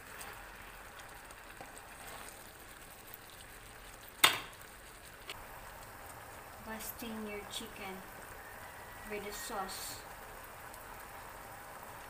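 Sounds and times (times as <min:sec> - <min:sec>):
sauce bubbling and sizzling in a pan: 0:00.0 - 0:12.0.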